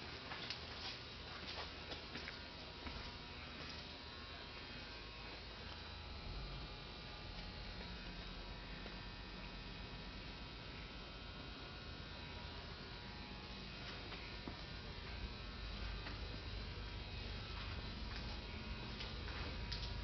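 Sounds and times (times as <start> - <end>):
low machinery hum: 0.0 - 20.0.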